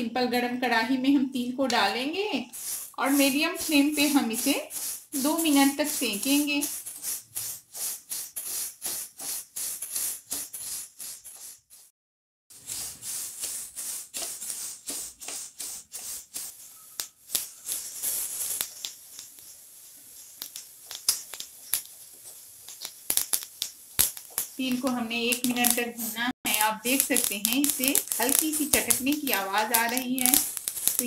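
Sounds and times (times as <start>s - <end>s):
seeds popping and crackling: 1.8s - 11.9s, 12.6s - 31.0s
seeds swishing across metal pan: 2.1s - 11.9s, 12.5s - 31.0s.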